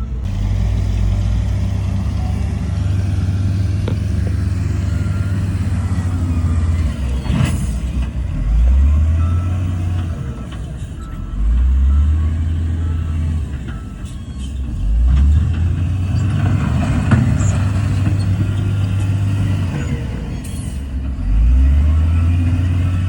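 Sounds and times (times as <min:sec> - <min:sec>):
heavy diesel machinery rumble: 0:00.0 - 0:23.0.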